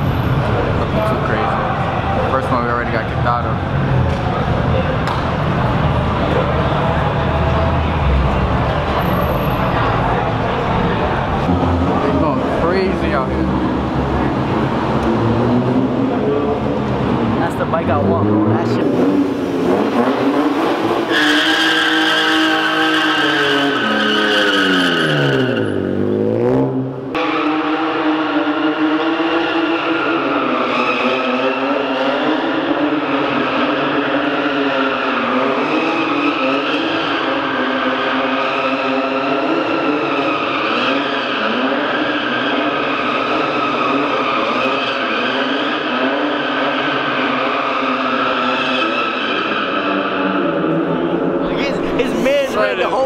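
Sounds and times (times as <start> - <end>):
tires skidding: 0.0 - 53.0
car engine revving high: 2.2 - 52.3.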